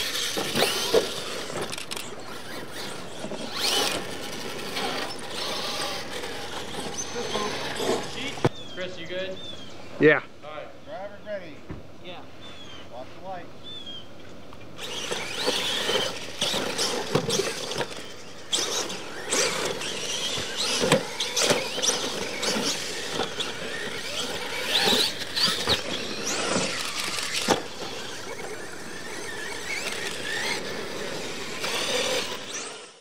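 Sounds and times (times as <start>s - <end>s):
tyre and drivetrain noise: 0.0s - 8.8s, 14.6s - 33.0s
electric motors whining: 0.0s - 10.0s, 14.6s - 33.0s.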